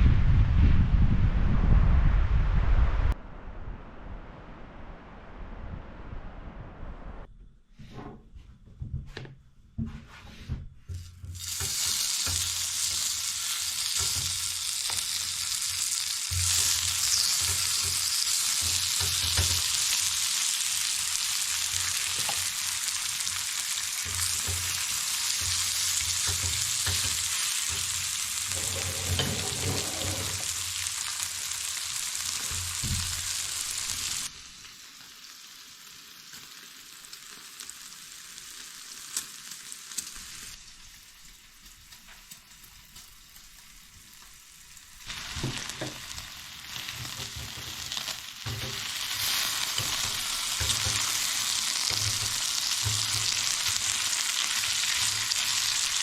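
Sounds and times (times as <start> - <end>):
steady sizzling hiss: 10.9 - 56.0.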